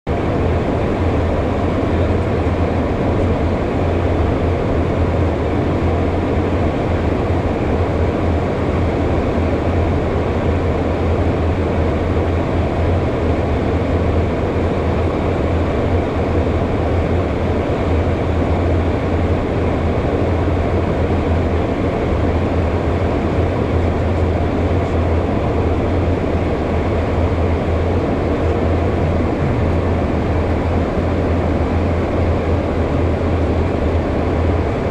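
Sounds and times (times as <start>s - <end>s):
jet engines droning: 0.1s - 34.9s.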